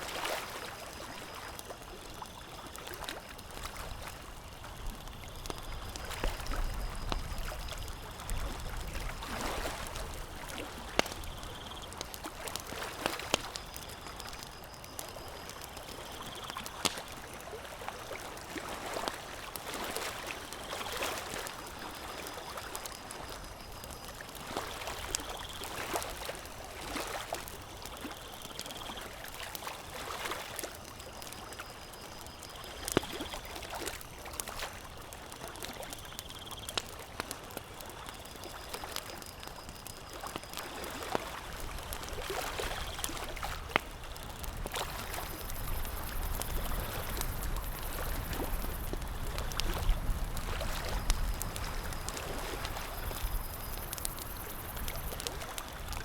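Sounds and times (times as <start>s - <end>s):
campfire crackling and popping: 0.1s - 56.0s.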